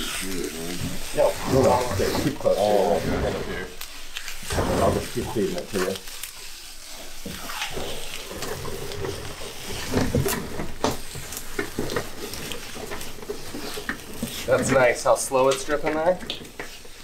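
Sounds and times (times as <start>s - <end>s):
plastic sheeting crinkling: 0.0s - 17.0s.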